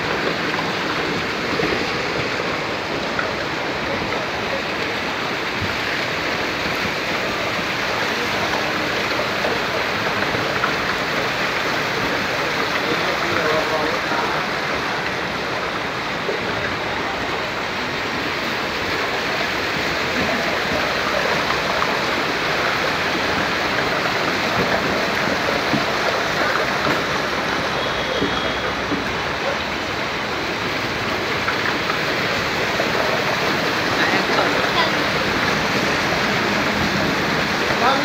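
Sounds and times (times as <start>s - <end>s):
train wheels splashing through water: 0.0s - 38.0s.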